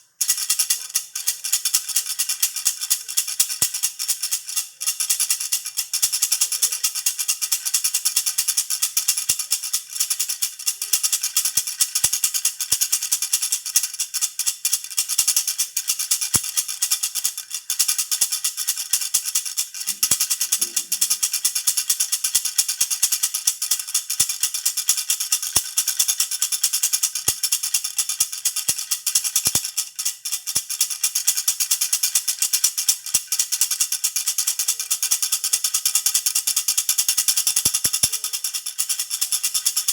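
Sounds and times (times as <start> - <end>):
baby rattle shaken: 0.2 - 39.9.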